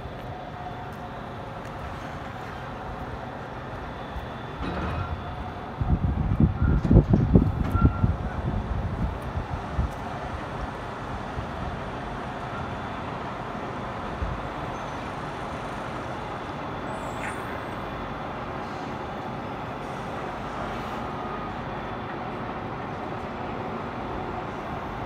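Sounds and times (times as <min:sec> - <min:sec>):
distant construction machinery rumbling: 0:00.0 - 0:25.0.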